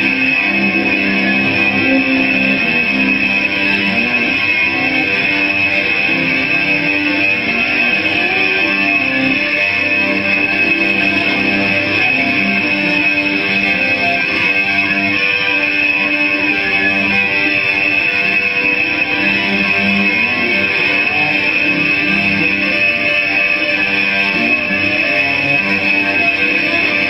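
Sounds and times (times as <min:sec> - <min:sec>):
high feedback tone: 0:00.0 - 0:27.0.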